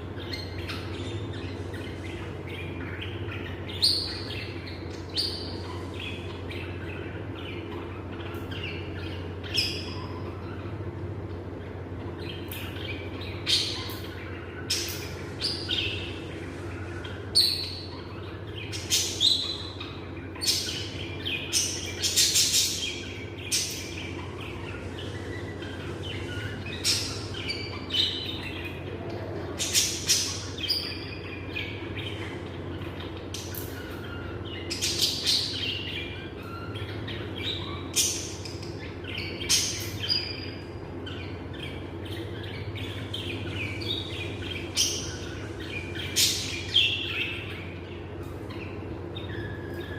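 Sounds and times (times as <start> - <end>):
lovebirds chirping: 0.0 - 49.9
steady low hum: 0.0 - 49.9.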